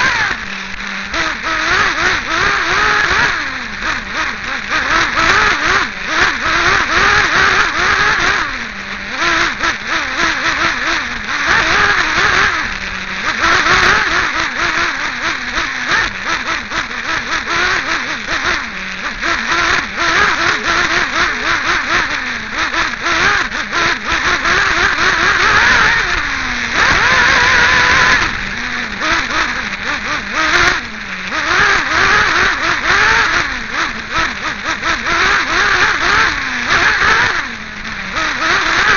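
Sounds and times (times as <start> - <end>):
model engine revving: 0.0 - 38.9.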